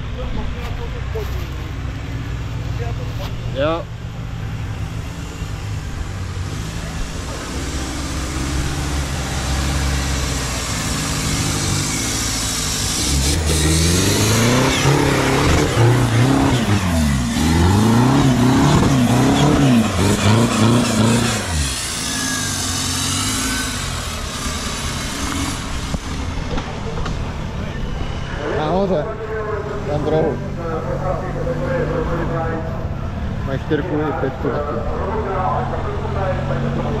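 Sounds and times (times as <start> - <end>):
buggy engine revving hard: 3.6 - 27.6, 29.7 - 37.0.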